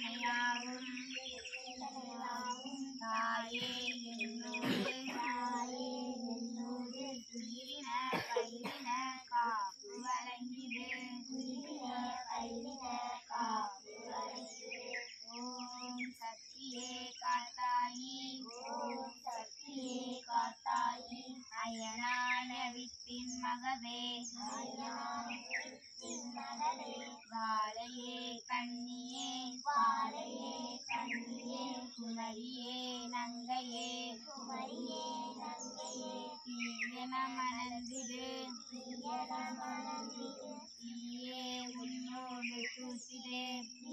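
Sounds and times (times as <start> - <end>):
child chanting: 0.0 - 43.9.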